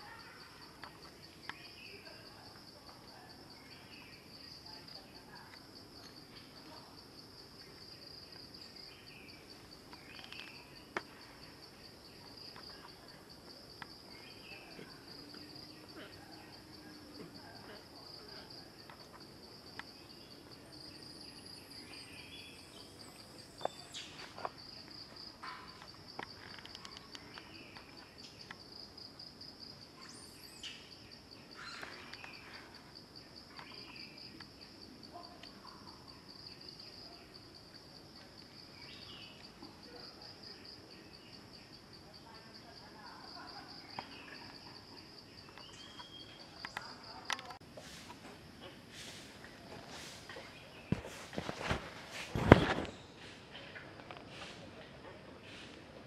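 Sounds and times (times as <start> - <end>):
faint chirps: 0.0 - 28.7, 29.6 - 51.8
insect chorus pulsing trill: 0.0 - 47.5.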